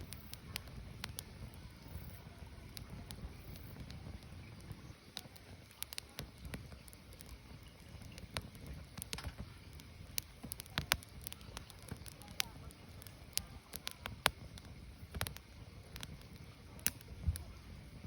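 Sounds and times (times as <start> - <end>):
firewood crackling and popping: 0.0 - 18.0
low rumble of fire: 0.0 - 18.0.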